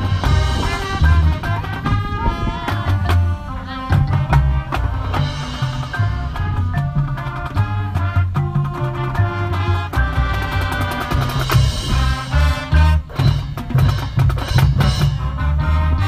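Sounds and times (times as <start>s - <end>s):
brass melody: 0.0s - 16.0s
drums: 0.0s - 16.0s
marching band playing: 0.0s - 16.0s.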